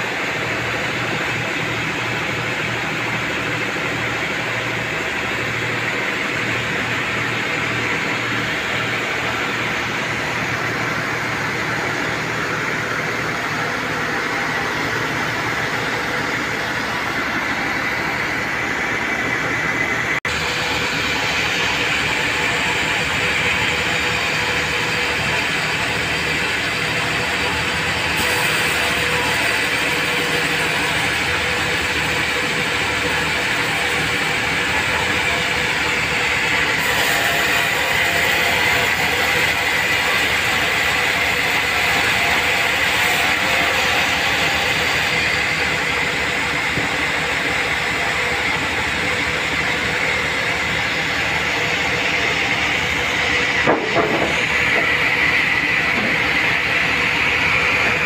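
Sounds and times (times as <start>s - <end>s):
band sawmill sawing log: 0.0s - 58.0s.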